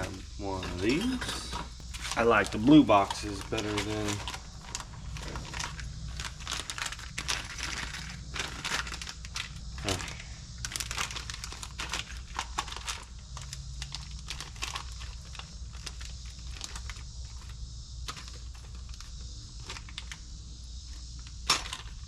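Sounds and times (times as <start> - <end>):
rummaging clicks and crinkling: 0.0 - 20.3, 20.9 - 22.0.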